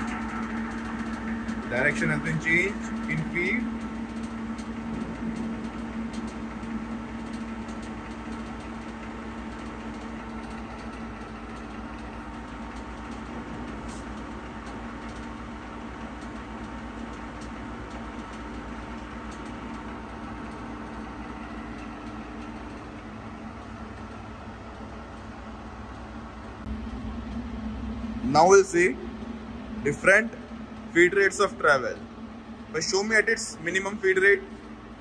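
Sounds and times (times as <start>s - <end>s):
lathe humming: 0.0s - 35.0s.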